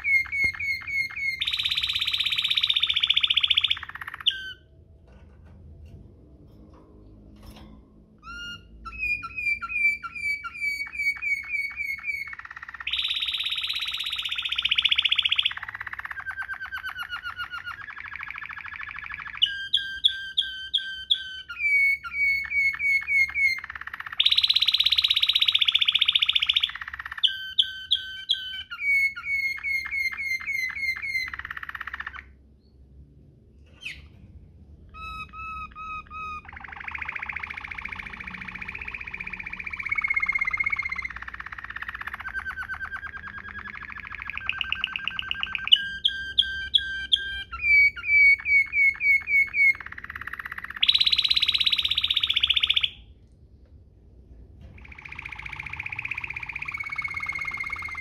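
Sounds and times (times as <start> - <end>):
canary singing trills: 0.0 - 5.2, 7.4 - 33.0, 33.6 - 53.2, 54.6 - 58.0.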